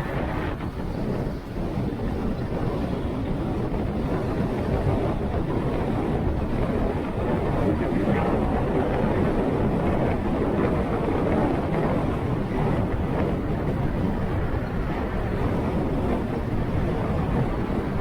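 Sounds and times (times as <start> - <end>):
motorcycle road noise: 0.0 - 18.0
wind buffeting microphone: 0.0 - 18.0
wind rush: 0.0 - 18.0.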